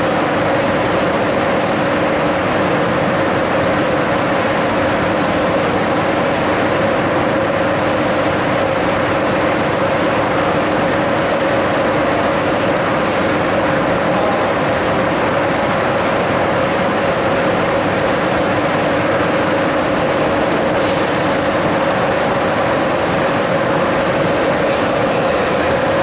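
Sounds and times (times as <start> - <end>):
trains humming at platform: 0.0 - 26.0.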